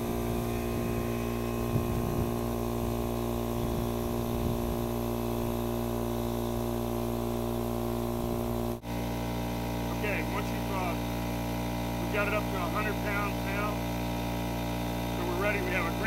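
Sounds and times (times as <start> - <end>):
machine hum with fixed tones: 0.0 - 16.0.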